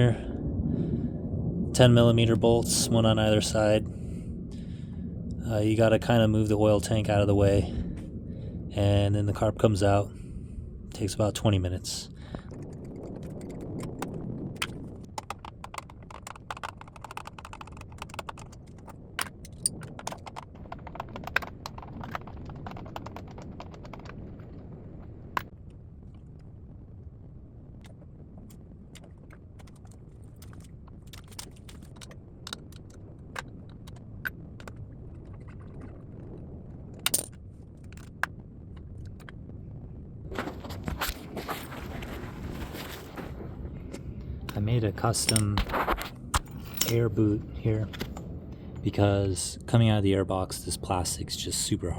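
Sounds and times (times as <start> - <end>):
low steady background noise: 0.0 - 51.9.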